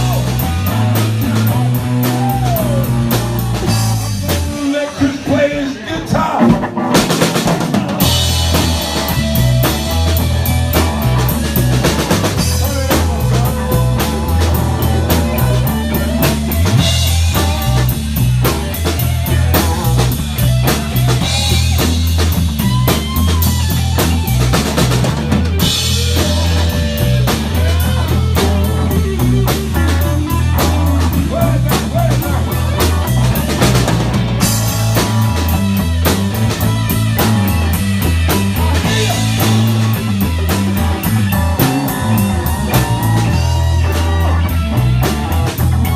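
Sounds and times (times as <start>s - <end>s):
repeating bass line: 0.0s - 4.8s, 6.5s - 45.9s
live rock band playing: 0.0s - 45.9s.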